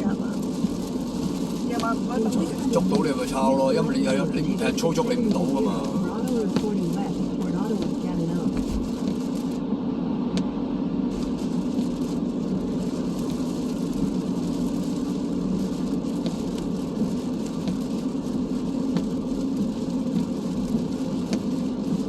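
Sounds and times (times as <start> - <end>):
road and tyre drone: 0.0 - 22.0.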